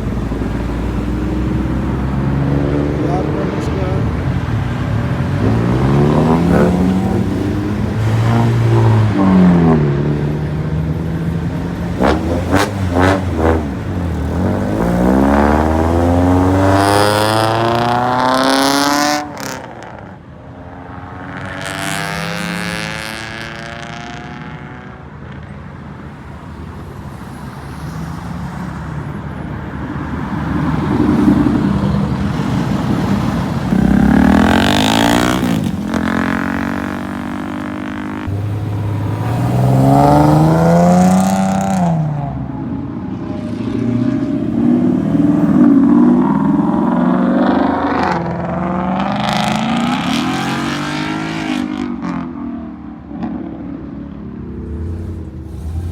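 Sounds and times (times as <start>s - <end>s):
car engines revving and accelerating: 0.0s - 55.9s.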